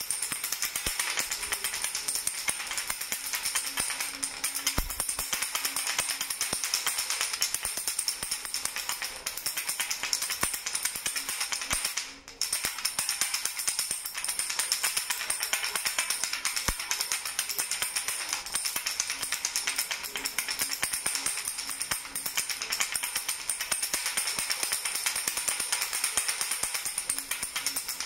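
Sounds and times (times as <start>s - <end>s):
toy rattle shaken rapidly: 0.0s - 28.0s.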